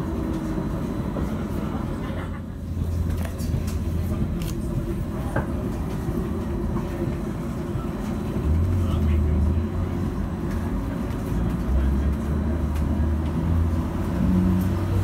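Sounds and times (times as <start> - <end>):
tram rumble and hum: 0.0 - 15.0.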